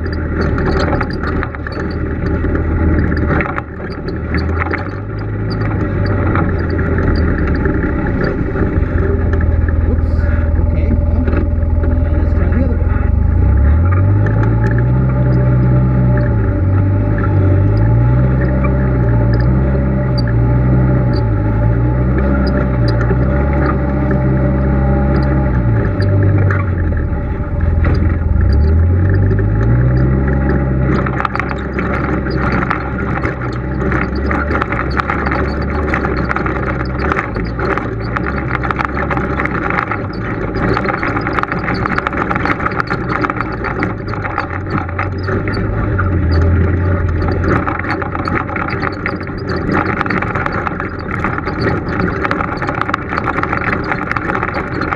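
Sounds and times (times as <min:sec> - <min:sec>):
off-road vehicle engine: 0:00.0 - 0:54.9
tyres and chassis rattling on rocks: 0:00.0 - 0:54.9.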